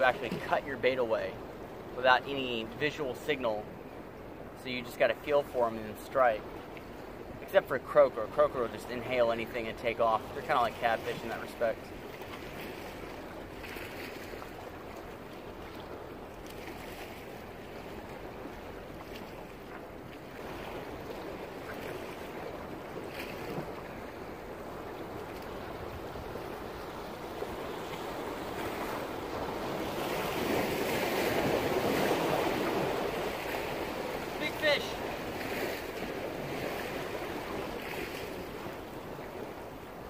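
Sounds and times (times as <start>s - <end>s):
sea surf washing against rocks: 0.0s - 3.8s, 4.4s - 40.0s.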